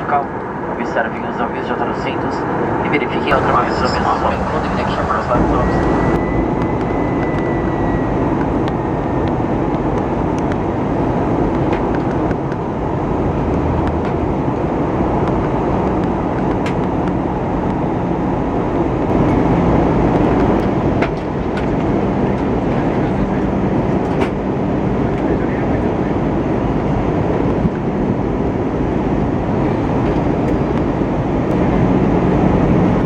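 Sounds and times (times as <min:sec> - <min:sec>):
aircraft engine drone: 0:00.0 - 0:33.0
airflow rush in cabin: 0:00.0 - 0:33.0.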